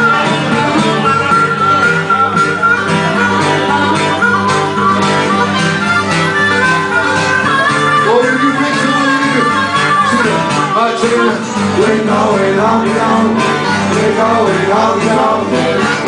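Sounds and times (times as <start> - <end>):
harmonica bending notes: 0.0 - 16.0
strummed acoustic guitar: 0.0 - 16.0.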